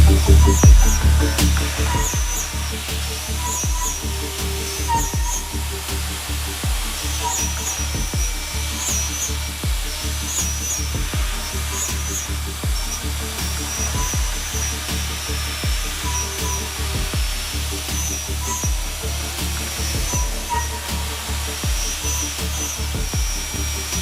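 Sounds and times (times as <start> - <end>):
electronic music with kick drum: 0.0 - 24.0.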